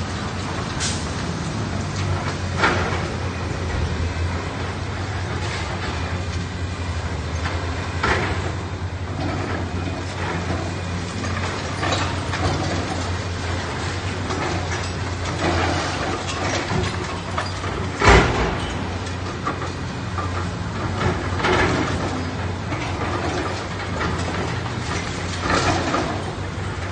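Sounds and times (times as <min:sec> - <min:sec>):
demolition debris crunching and scraping: 0:00.0 - 0:26.9
diesel engine droning: 0:00.0 - 0:26.9.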